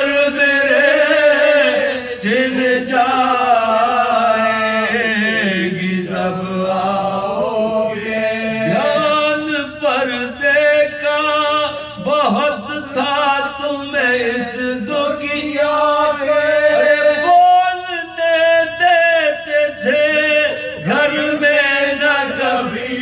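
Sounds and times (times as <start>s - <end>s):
man chanting unaccompanied: 0.0s - 23.0s.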